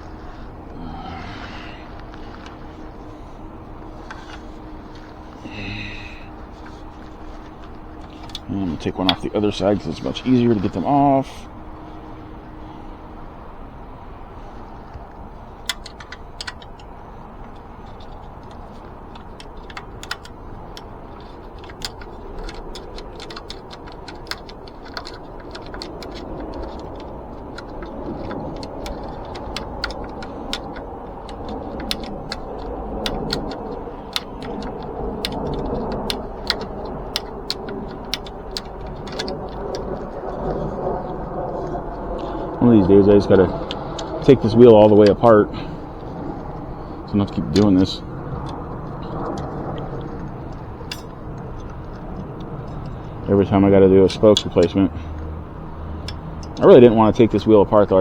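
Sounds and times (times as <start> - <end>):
sharp metallic clicks: 0.0 - 58.0
steady low rumble: 0.0 - 58.0.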